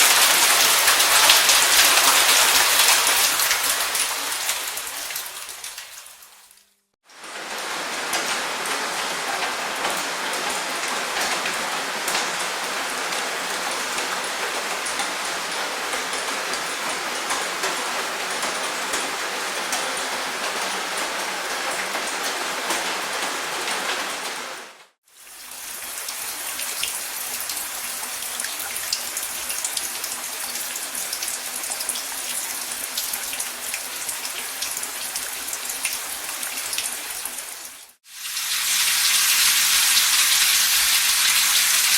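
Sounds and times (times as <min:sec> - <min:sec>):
bright hissy rain: 0:00.0 - 0:41.9
dense rain patter: 0:00.0 - 0:41.9.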